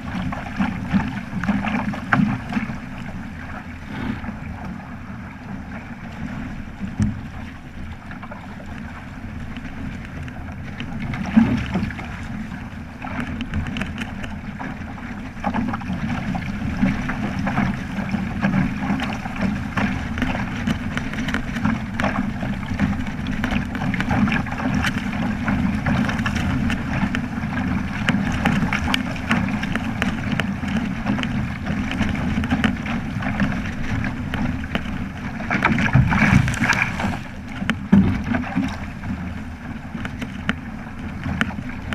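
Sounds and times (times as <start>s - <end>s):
water rushing along hull: 0.0s - 41.9s.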